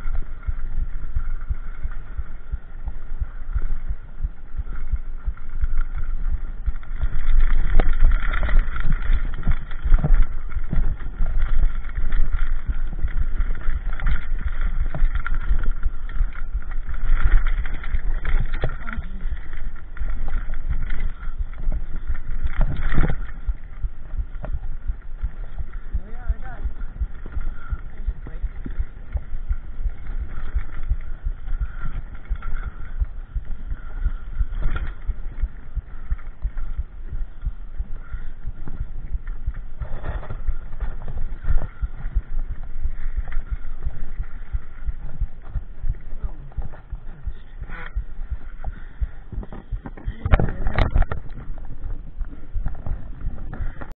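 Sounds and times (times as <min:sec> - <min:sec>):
bike rumbling over stony trail: 0:00.0 - 0:53.9.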